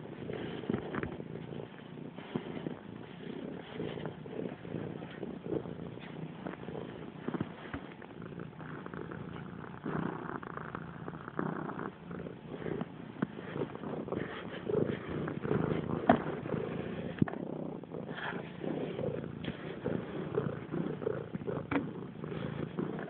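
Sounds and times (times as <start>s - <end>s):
cat purring: 0.0s - 23.0s
soft clicks and rustles: 0.1s - 17.5s, 18.1s - 23.0s.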